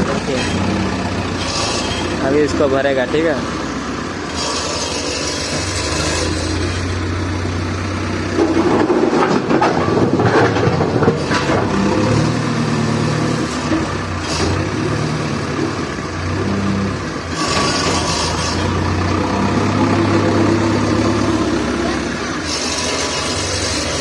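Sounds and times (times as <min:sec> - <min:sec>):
diesel engine running under load: 0:00.0 - 0:24.0.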